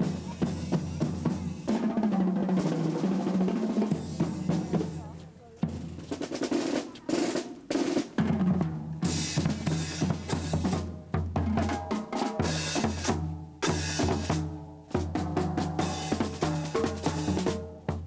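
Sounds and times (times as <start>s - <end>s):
snare and bass drums: 0.0s - 18.0s.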